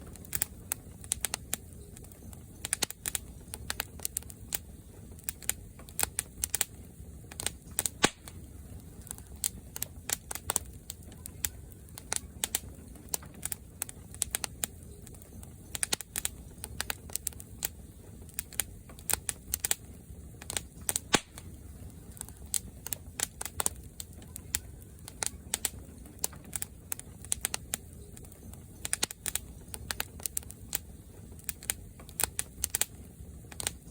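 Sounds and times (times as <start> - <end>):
fire crackling and popping: 0.0 - 33.9
low fire rumble: 0.0 - 33.9.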